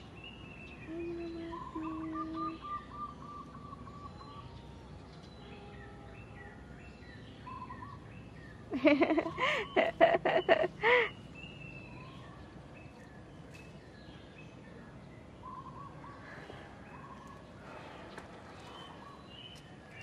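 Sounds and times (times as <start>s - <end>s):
birds chirping and calling: 0.0s - 5.8s, 6.4s - 14.7s, 15.4s - 20.0s
outdoor background noise: 0.0s - 20.0s.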